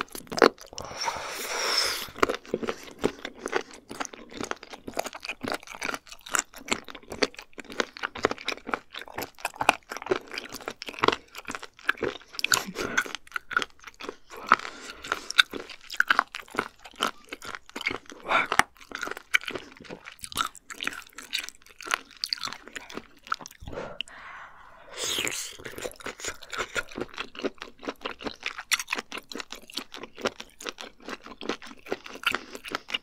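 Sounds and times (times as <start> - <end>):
chewing and crunching: 0.0 - 1.0, 2.0 - 24.2, 25.2 - 33.0.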